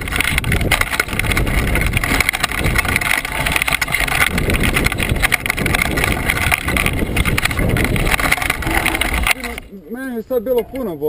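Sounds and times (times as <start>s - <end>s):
steady rushing noise: 0.0s - 10.5s
bike rattling over bumps: 0.0s - 11.0s.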